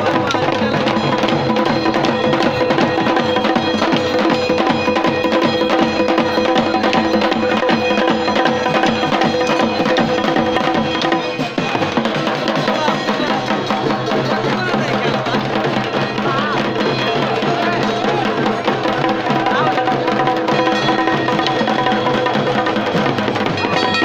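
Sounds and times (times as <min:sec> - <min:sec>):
rapid folk drumming: 0:00.0 - 0:24.0.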